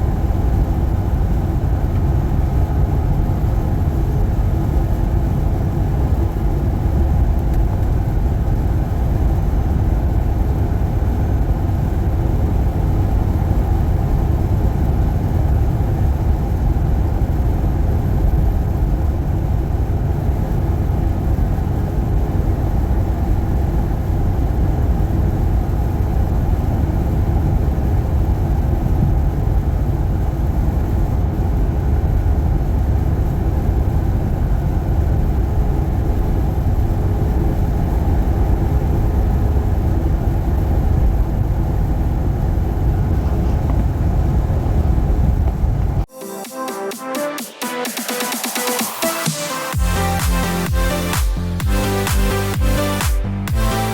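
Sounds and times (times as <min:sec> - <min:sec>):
truck engine and road rumble: 0:00.0 - 0:46.1.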